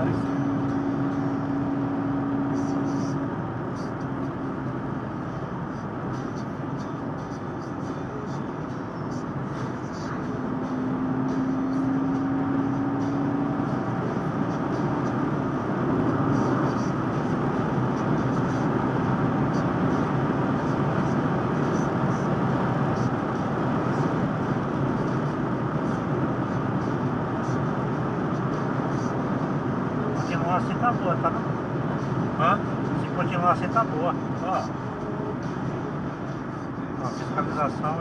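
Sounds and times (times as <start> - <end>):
car interior road noise: 0.0 - 38.0.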